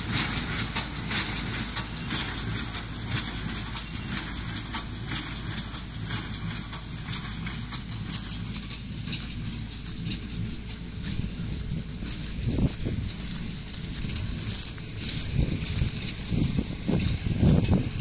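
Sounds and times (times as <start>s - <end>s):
baler mechanism clattering: 0.0s - 18.0s
tractor engine running: 0.0s - 18.0s.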